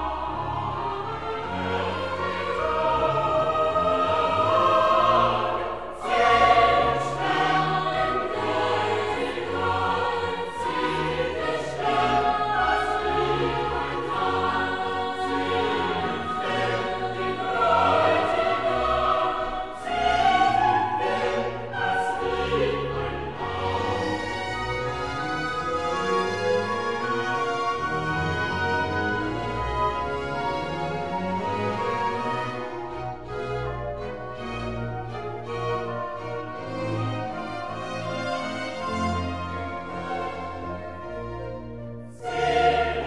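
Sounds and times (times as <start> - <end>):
choir singing long notes: 0.0 - 43.0
orchestra playing: 0.0 - 43.0.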